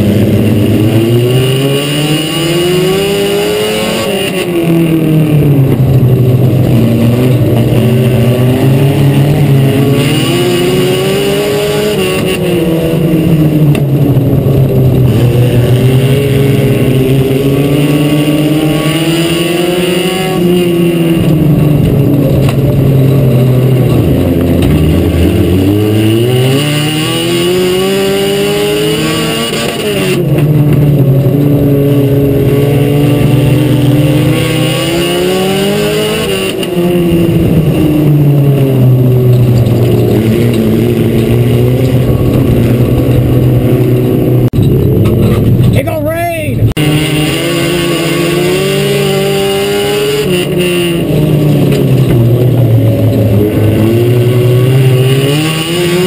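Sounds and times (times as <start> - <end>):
race car engine revving: 0.0 - 45.8, 46.5 - 56.0.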